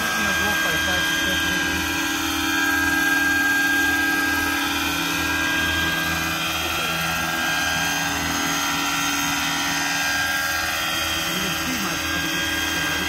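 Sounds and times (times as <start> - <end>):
model helicopter hovering: 0.0 - 13.0.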